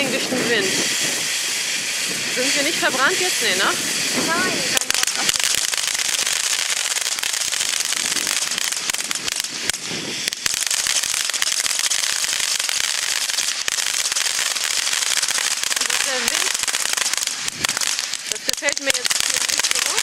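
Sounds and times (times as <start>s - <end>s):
firework fountain hissing and crackling: 0.0s - 20.0s
sharp firework crack: 0.0s - 20.0s.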